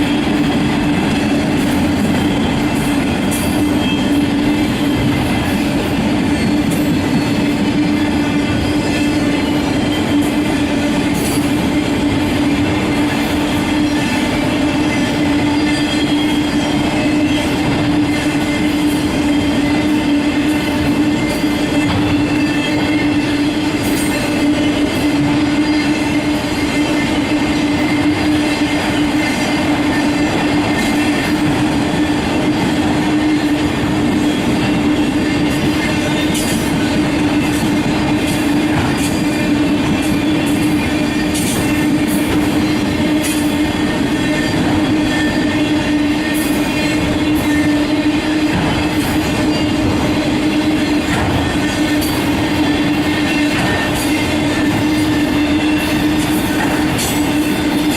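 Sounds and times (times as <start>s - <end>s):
freight train cars rumbling: 0.0s - 57.9s.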